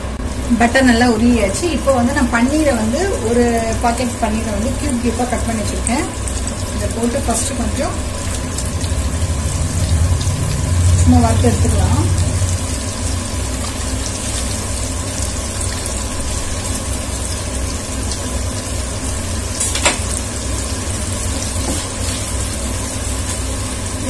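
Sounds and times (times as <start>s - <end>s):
low steady hum: 0.0s - 24.0s
food sizzling in butter: 0.3s - 24.0s.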